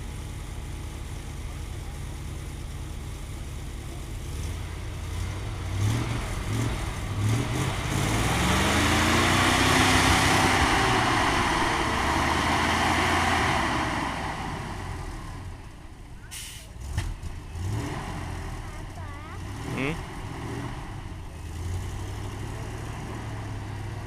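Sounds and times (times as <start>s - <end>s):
truck engine revving: 1.5s - 24.0s.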